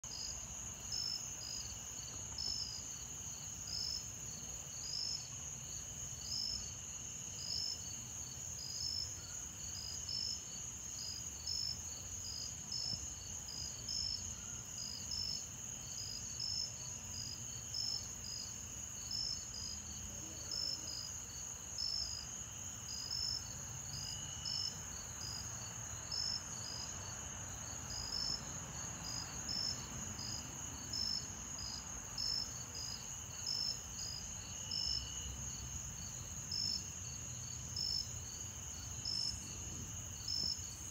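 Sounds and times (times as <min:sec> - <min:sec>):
insects chirping: 0:00.1 - 0:40.9.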